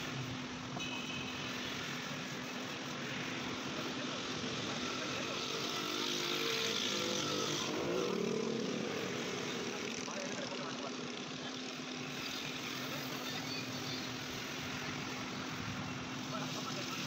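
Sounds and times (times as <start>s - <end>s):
street traffic noise: 0.0s - 17.0s
vehicle engine running: 3.1s - 17.0s.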